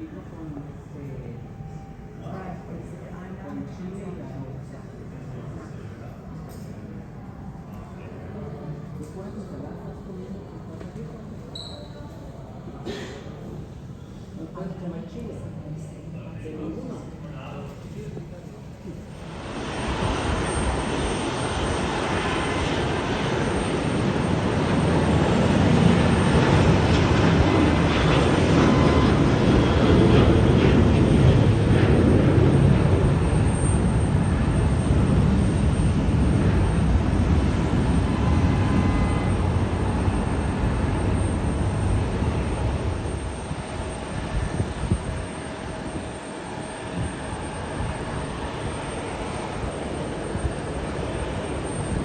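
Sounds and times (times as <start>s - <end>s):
jet airliner engines roaring: 0.0s - 52.0s.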